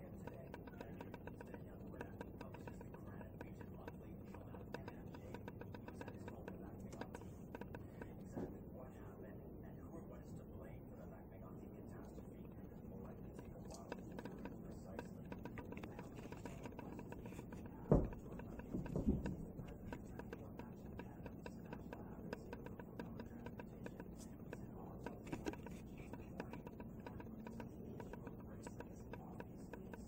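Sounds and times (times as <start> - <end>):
crows tapping on a skylight: 0.0 - 8.6, 11.7 - 30.0.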